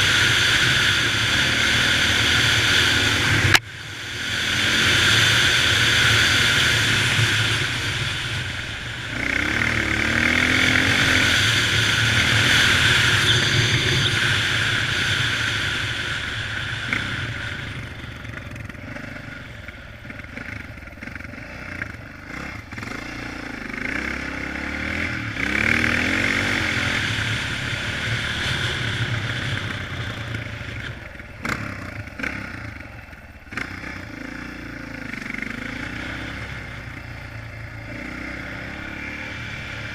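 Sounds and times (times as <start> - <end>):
dirt bike engine accelerating: 0.0 - 39.9
steady rushing noise: 0.0 - 39.9.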